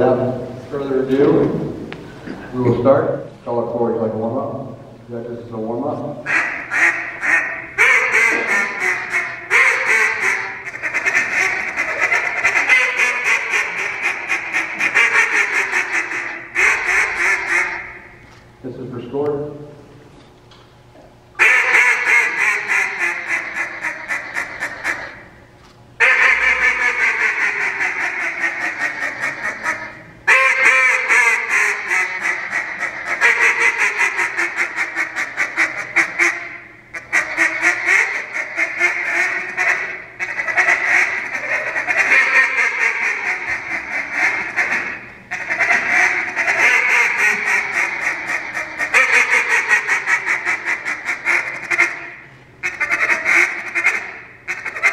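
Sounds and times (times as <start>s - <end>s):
duck call quacking: 6.2s - 18.2s, 21.4s - 25.3s, 26.0s - 54.9s.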